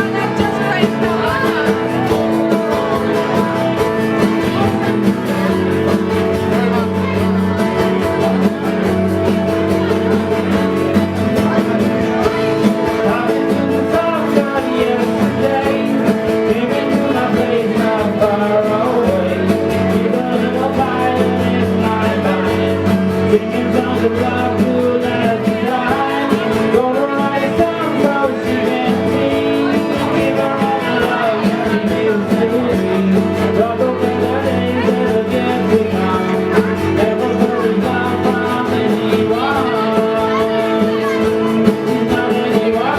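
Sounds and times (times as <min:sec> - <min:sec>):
electric guitars: 0:00.0 - 0:42.9
person singing: 0:00.0 - 0:42.9.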